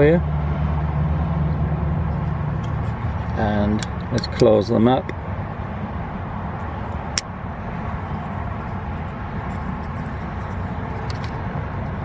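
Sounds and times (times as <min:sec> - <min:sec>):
low outdoor background noise: 0:00.0 - 0:12.0.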